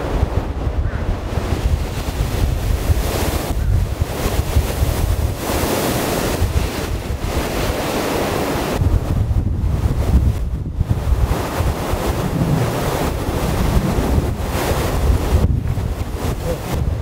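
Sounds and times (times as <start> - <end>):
wind buffeting microphone: 0.0 - 17.0
wind rushing through trees: 0.0 - 17.0.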